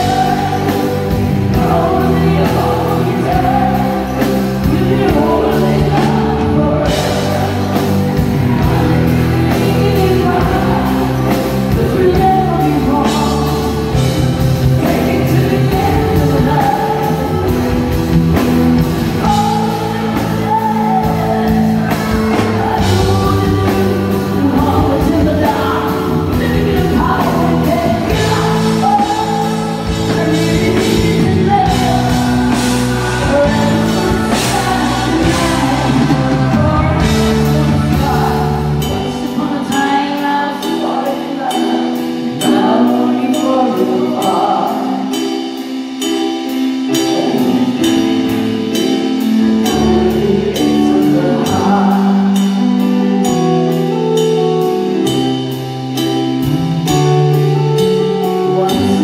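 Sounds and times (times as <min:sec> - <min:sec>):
rock band playing a power ballad: 0:00.0 - 0:59.0
woman singing lead: 0:00.0 - 0:59.0.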